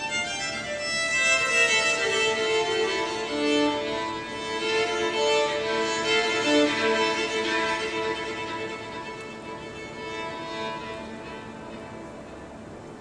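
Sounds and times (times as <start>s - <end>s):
string ensemble playing: 0.0s - 13.0s.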